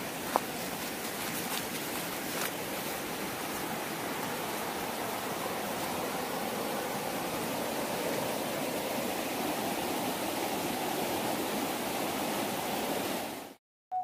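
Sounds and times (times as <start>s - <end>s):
stream water rushing: 0.0s - 13.6s.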